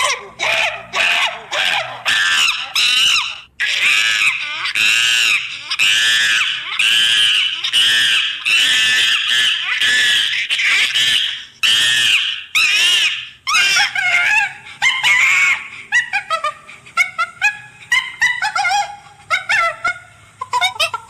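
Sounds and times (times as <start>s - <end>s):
harsh animal screeches: 0.0s - 21.0s.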